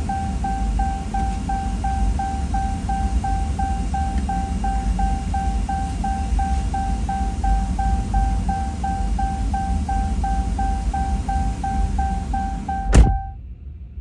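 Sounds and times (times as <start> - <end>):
electronic beeper high tone: 0.0 - 13.4
low mechanical rumble: 0.0 - 14.0.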